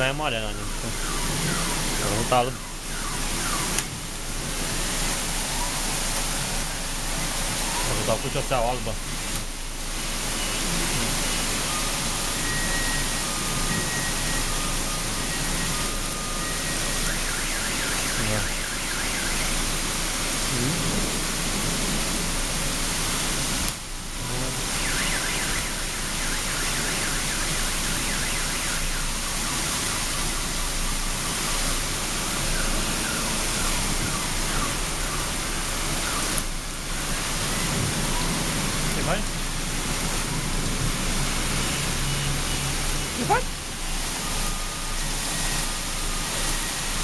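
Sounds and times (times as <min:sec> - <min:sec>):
heavy rain with hail on street: 0:00.0 - 0:47.0.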